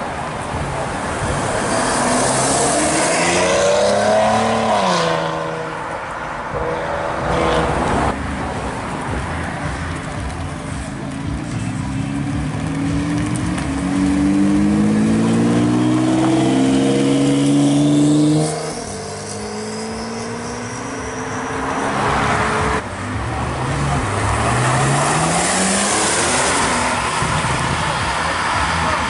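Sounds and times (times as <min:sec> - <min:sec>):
sports car engines revving: 0:00.0 - 0:29.0.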